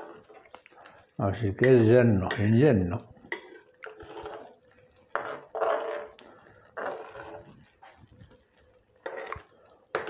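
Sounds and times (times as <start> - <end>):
spoon stirring rice in pot: 0.0 - 10.0.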